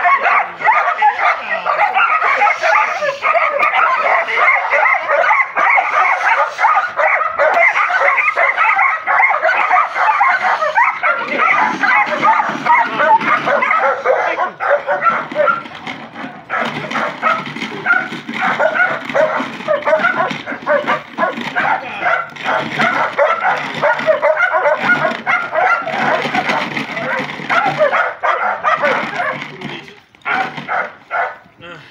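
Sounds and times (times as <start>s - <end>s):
dogs barking and yipping: 0.0s - 31.6s.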